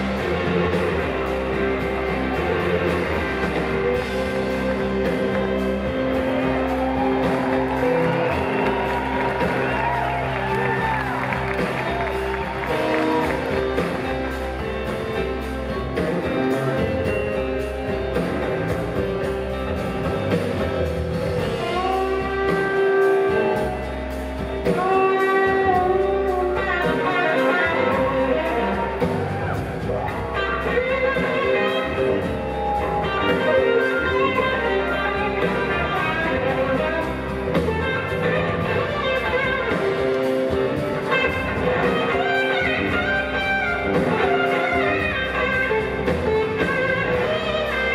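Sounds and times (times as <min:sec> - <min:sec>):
electric guitar bending notes: 0:00.0 - 0:47.9
steady drum beat: 0:00.0 - 0:47.9.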